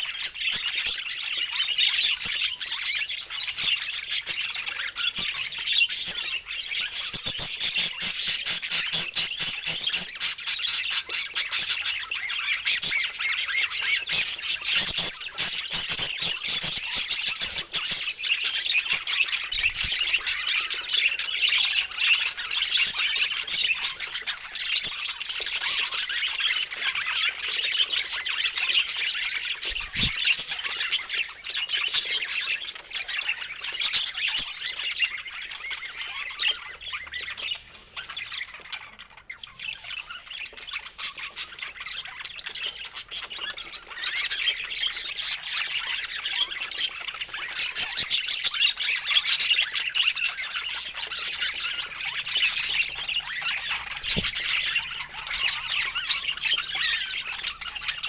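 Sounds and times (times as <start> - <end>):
budgerigars chattering: 0.0 - 58.0
budgerigar squawks and chirps: 0.1 - 58.0.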